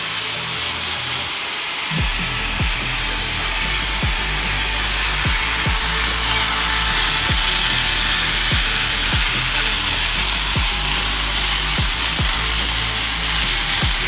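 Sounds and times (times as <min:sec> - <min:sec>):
hissing power tool: 0:00.0 - 0:14.0
music with low thumps: 0:01.9 - 0:14.0.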